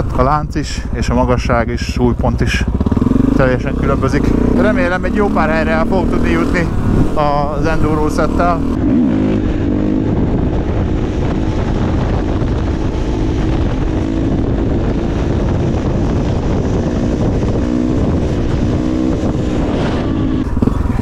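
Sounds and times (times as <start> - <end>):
motorcycle engine cruising: 0.0 - 21.0
wind buffeting microphone: 0.0 - 21.0.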